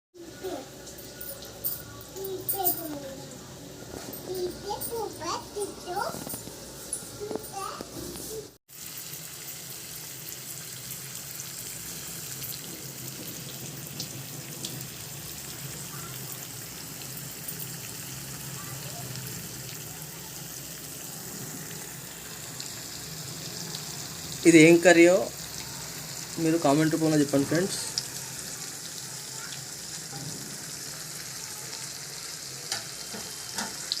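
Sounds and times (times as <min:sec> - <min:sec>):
curry sizzling in a pan: 0:00.2 - 0:34.0.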